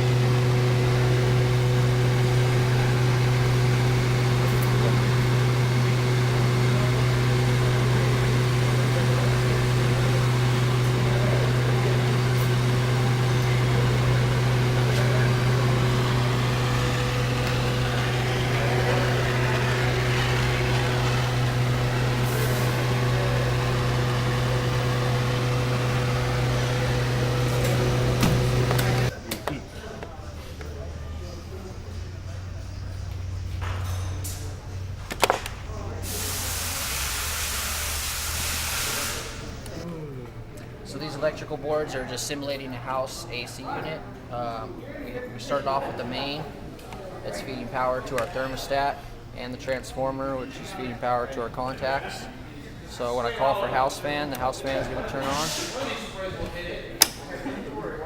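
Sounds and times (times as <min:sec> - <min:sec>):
hvac equipment humming: 0:00.0 - 0:58.0.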